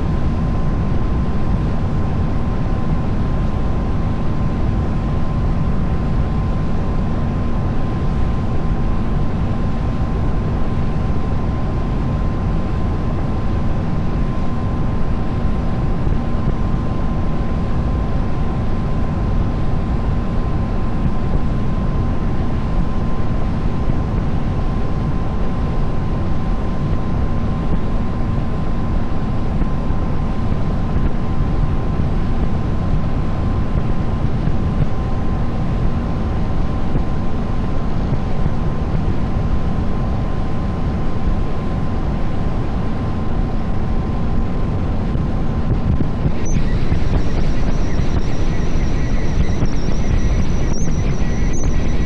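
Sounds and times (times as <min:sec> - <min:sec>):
thin steady whine: 0:00.0 - 0:52.0.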